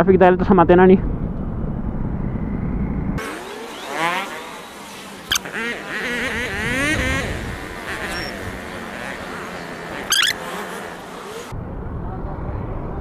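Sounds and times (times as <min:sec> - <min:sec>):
engine and wind rumble: 0:00.0 - 0:13.0
motorcycle engines revving: 0:01.0 - 0:11.8.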